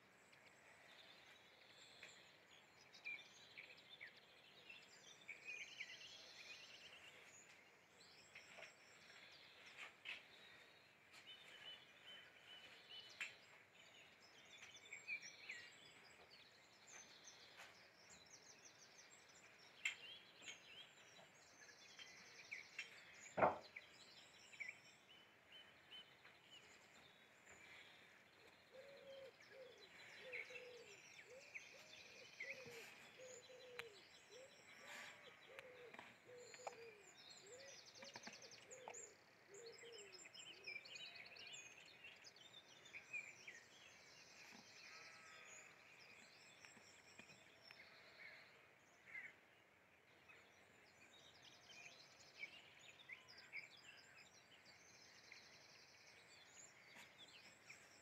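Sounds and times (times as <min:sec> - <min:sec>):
small birds chirping and trilling: 0:00.0 - 0:58.0.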